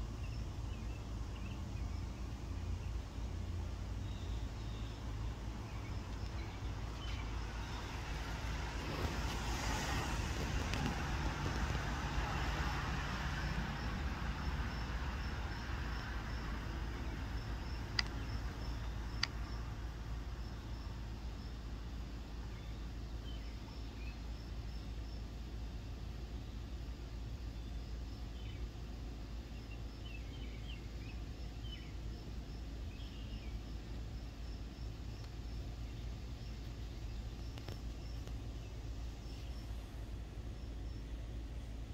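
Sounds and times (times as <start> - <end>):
outdoor background rumble and hiss: 0.0 - 41.9.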